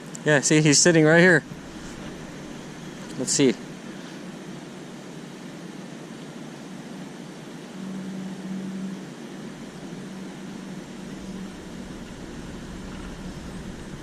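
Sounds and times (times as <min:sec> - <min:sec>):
outdoor background rush: 0:00.0 - 0:14.0
low even hum: 0:00.7 - 0:14.0.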